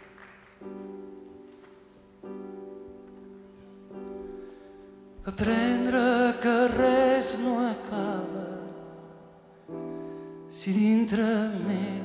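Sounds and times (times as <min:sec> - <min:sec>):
solo piano chords: 0:00.0 - 0:12.0.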